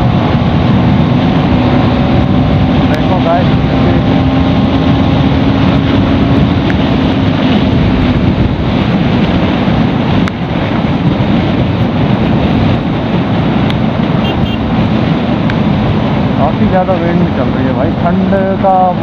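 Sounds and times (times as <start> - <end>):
motorcycle engine running: 0.0 - 16.4
wind rushing over microphone: 0.0 - 19.0.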